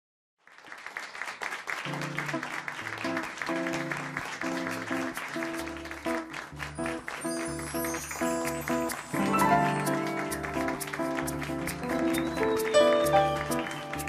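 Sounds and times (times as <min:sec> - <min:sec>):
piano and guitar chords: 0:01.9 - 0:14.0.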